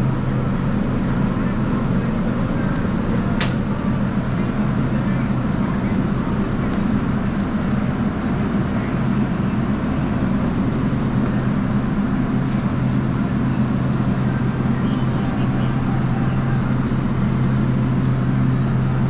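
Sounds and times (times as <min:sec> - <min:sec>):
refrigeration equipment humming: 0:00.0 - 0:19.0.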